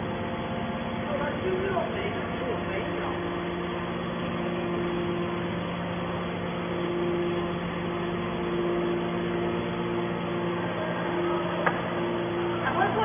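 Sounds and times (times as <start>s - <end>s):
baler motor and pump humming: 0.0s - 13.0s.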